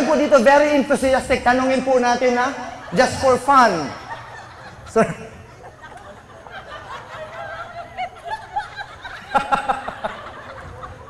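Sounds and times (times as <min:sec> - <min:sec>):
audience laughing: 0:01.7 - 0:11.0.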